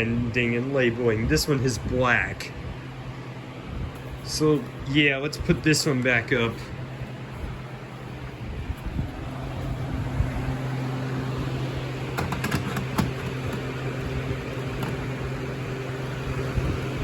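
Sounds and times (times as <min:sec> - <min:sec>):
electric fans humming: 0:00.0 - 0:17.0.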